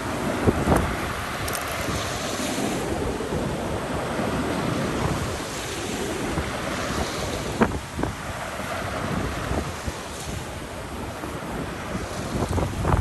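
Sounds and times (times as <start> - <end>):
waves washing ashore: 0.0 - 13.0
wind buffeting microphone: 0.0 - 13.0.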